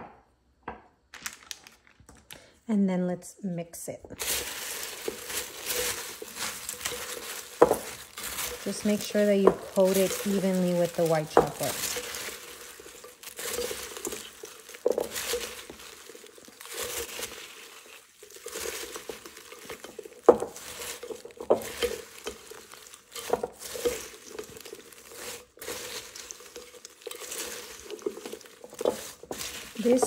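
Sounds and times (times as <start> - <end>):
snack mix rustling and crunching: 1.1 - 2.4, 4.2 - 30.0.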